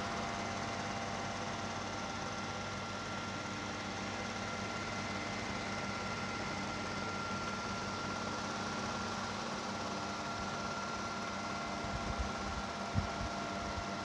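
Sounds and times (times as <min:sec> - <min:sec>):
film projector motor hum: 0:00.0 - 0:14.0
thin steady whine: 0:00.0 - 0:14.0.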